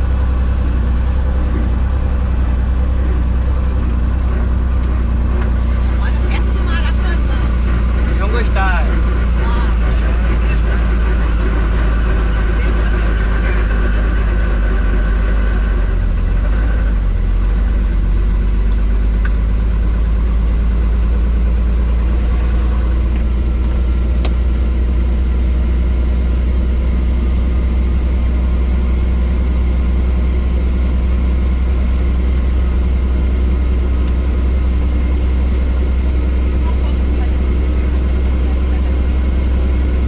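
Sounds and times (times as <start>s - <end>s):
helicopter engine and rotor drone: 0.0s - 40.0s.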